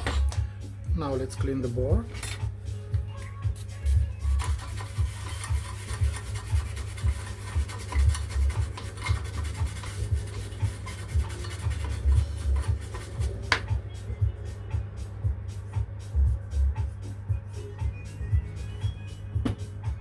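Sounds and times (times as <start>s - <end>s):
pulsing bass beat music: 0.0s - 20.0s.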